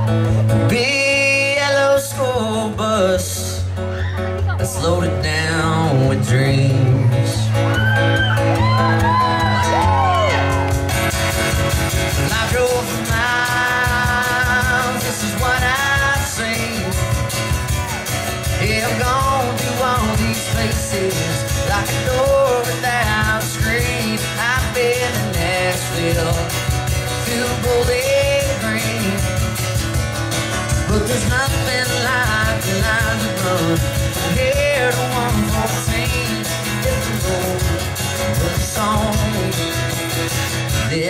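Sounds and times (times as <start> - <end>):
person singing: 0.0 - 10.7, 12.0 - 41.0
acoustic guitar playing: 0.0 - 41.0.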